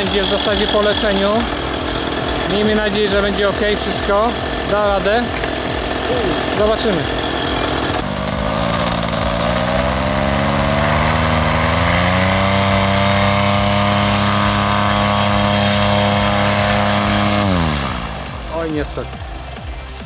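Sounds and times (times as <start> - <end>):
paramotor engine revving: 0.0 - 20.0.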